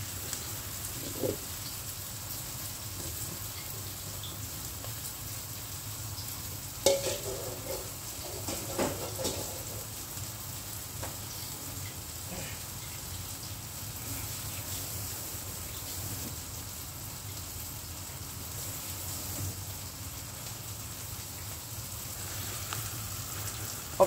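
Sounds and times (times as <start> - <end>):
onions sizzling in a wok: 0.0 - 24.0.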